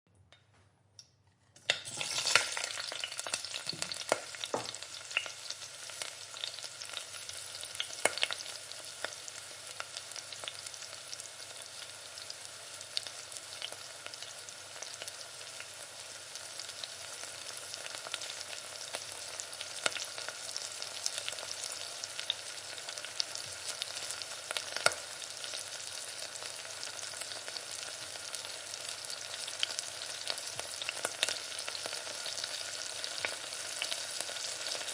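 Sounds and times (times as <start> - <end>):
food frying in hot oil: 1.7 - 34.9.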